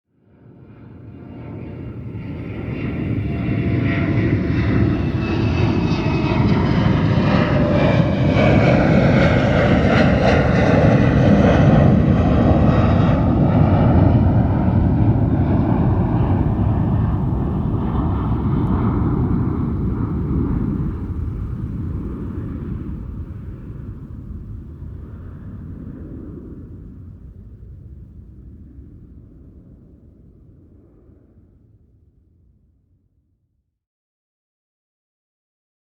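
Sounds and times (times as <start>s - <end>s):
jet engine whine: 0.2s - 31.4s
jet engine rumble: 0.4s - 32.0s.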